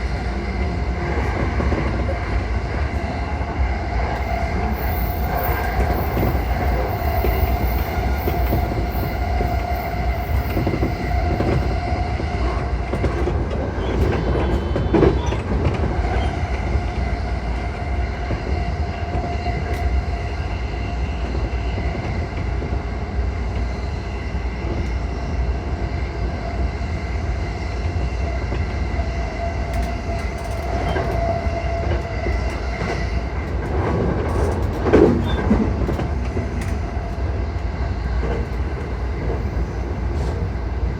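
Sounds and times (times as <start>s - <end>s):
train clatters: 0.0s - 40.9s
train wheels rumbling on rail: 0.0s - 40.9s.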